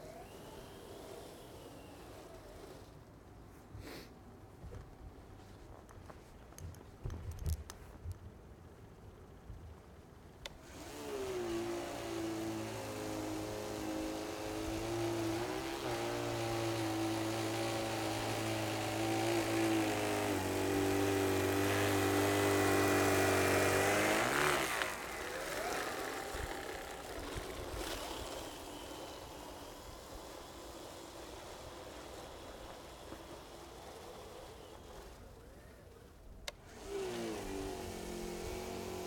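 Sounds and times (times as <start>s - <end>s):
snow blower motor running: 0.0s - 3.0s, 10.4s - 39.0s.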